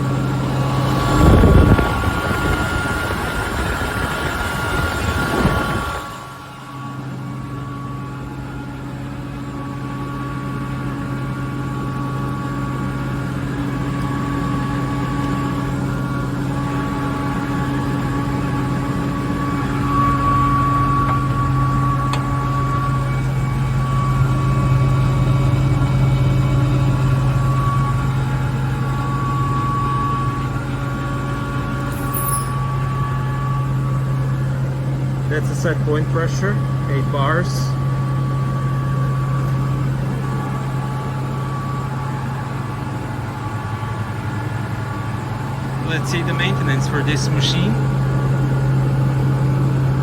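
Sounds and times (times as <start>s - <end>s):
air compressor humming: 0.0s - 50.0s.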